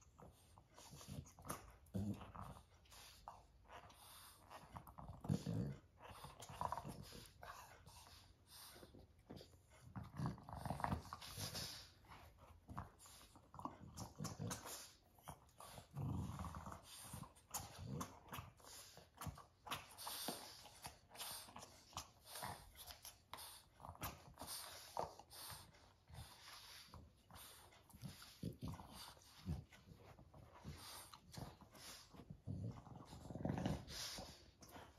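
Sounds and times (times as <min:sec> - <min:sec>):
dogs play-growling: 0:00.0 - 0:34.9.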